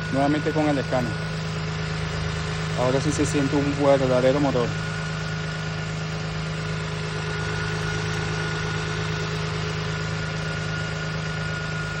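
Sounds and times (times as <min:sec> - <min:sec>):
car engine idling: 0:00.0 - 0:12.0
steady high tone: 0:00.0 - 0:12.0.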